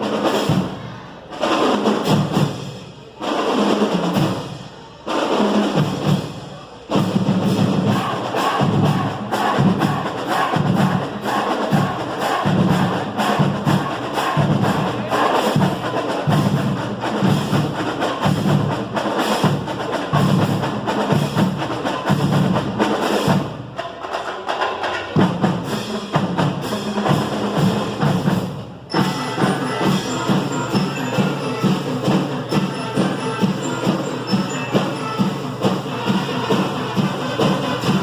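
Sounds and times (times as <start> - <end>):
marching drumline cadence: 0.0 - 38.0.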